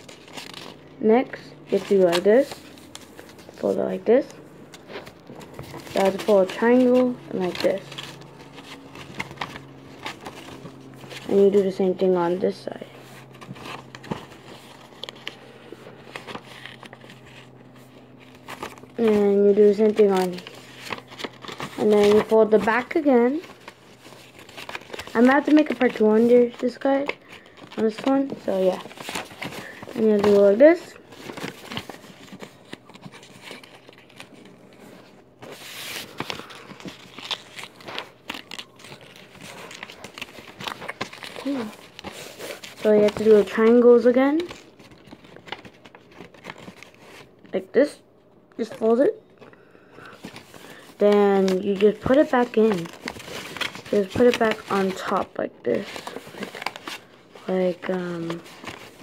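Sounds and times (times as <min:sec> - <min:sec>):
low steady hum: 0:00.0 - 0:59.0
paper crinkling and folding: 0:00.0 - 0:59.0.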